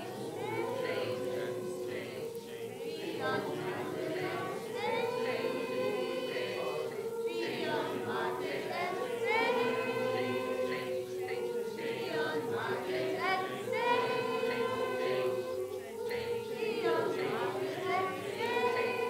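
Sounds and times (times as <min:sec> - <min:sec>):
choir holding a hummed note: 0:00.0 - 0:19.0.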